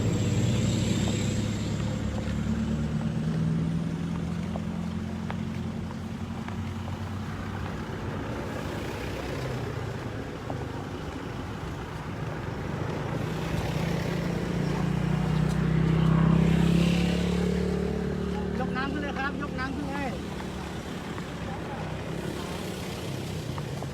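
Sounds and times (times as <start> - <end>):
vehicle engine humming: 0.0 - 23.9.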